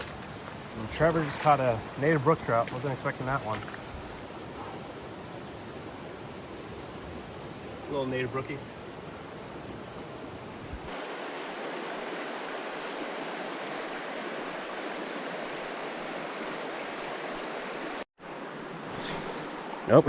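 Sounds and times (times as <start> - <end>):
mountain stream rushing: 0.0 - 18.7.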